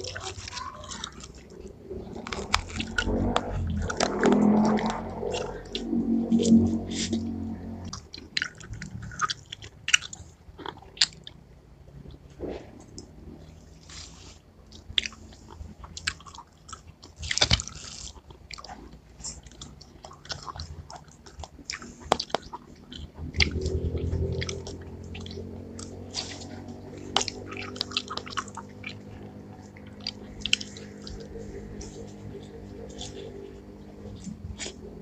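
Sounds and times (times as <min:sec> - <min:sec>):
low steady hum: 0:00.0 - 0:35.0
wet chewing sounds: 0:00.0 - 0:35.0.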